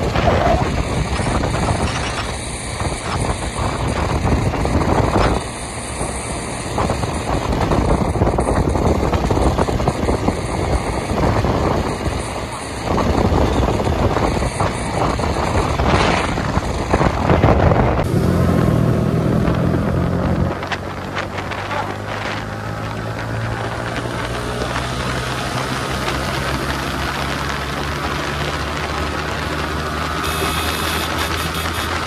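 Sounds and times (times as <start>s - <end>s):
wind buffeting microphone: 0.0s - 30.1s
motorcycle engine hum: 0.0s - 32.0s
road noise: 0.0s - 32.0s.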